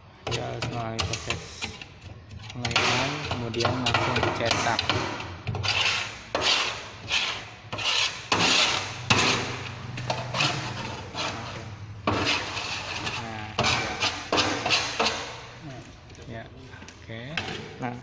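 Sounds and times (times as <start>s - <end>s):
steady low hum: 0.0s - 18.0s
tool rasping against surface: 0.2s - 16.0s.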